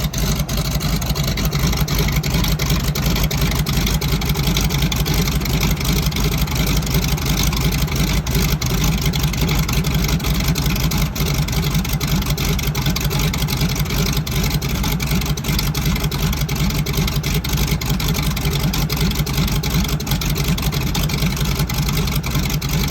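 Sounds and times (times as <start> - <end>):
radial aircraft engine running: 0.0 - 22.9.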